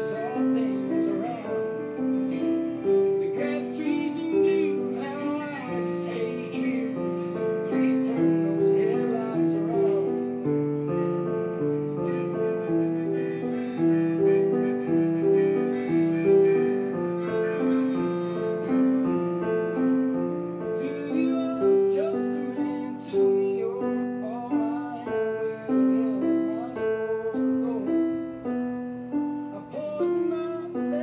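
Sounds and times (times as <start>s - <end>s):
person singing: 0.0s - 31.0s
piano playing slow melody: 0.0s - 31.0s
recorded song playing: 0.0s - 31.0s.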